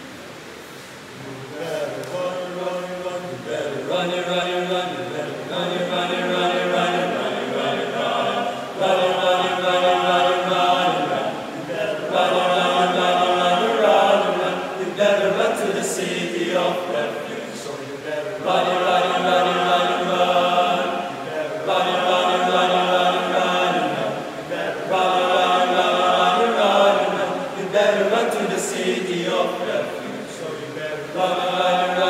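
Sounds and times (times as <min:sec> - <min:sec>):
male vocal group singing: 0:01.2 - 0:32.0.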